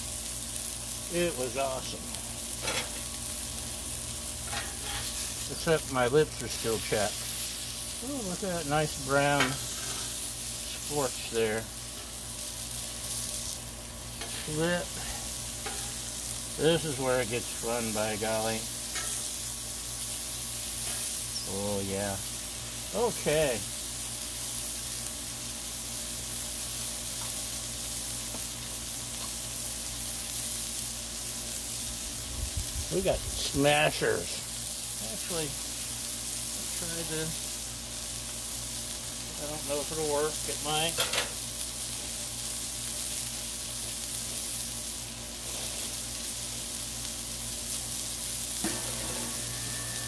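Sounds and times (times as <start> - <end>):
beef sizzling on griddle: 0.0 - 50.0.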